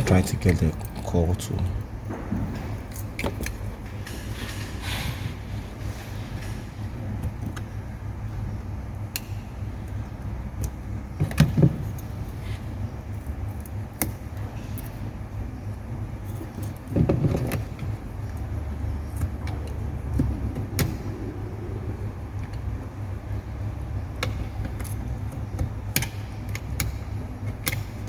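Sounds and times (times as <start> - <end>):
steady low rumble: 0.0 - 17.0, 17.6 - 28.0.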